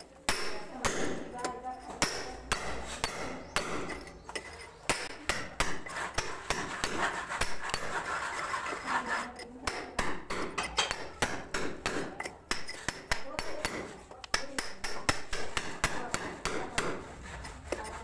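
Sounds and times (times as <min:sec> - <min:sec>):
hammer striking metal chisel: 0:00.0 - 0:17.1.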